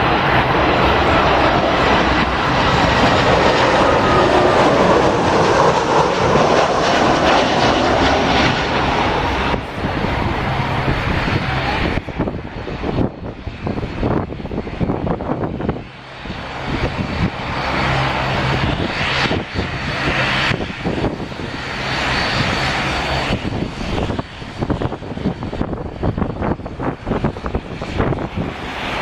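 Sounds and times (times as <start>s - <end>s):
jet engines roaring: 0.0s - 29.0s
wind buffeting microphone: 0.0s - 29.0s.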